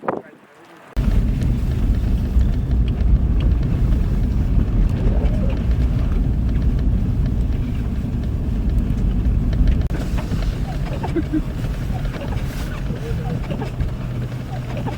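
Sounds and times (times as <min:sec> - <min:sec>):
vehicle driving rumble: 0:00.9 - 0:14.9.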